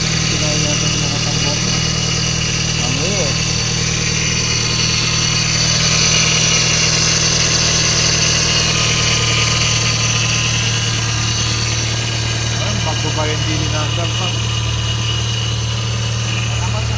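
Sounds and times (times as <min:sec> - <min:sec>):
car engine idling: 0:00.0 - 0:16.9
high engine whine: 0:00.0 - 0:16.9.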